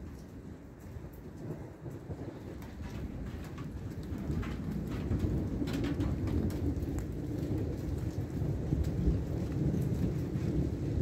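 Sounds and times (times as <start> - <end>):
faint raindrop ticks: 0.0 - 11.0
thunder rumbling: 0.0 - 11.0.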